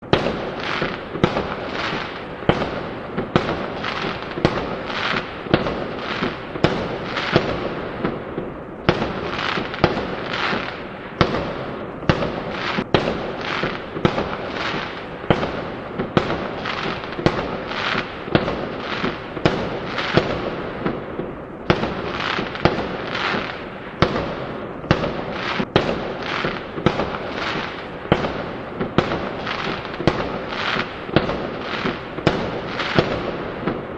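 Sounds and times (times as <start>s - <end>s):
fireworks bangs with hiss: 0.0s - 33.9s.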